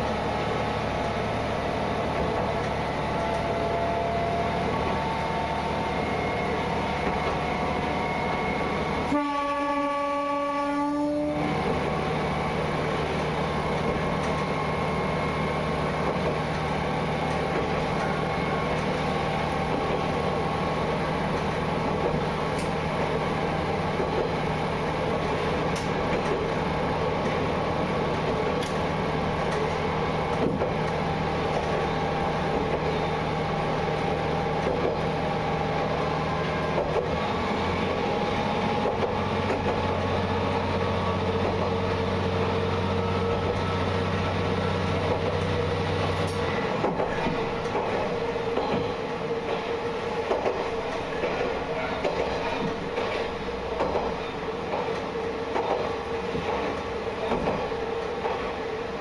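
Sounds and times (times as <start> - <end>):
diesel railcar engine running: 0.0 - 59.0.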